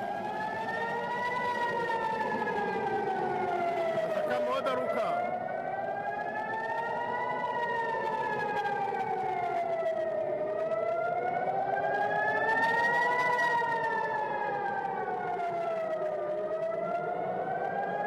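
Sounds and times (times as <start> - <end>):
air-raid siren wailing: 0.0 - 18.0.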